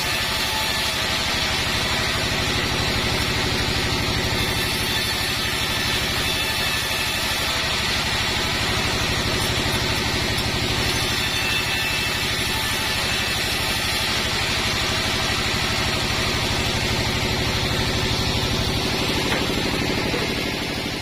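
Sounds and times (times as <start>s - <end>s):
band saw running: 0.0s - 21.0s.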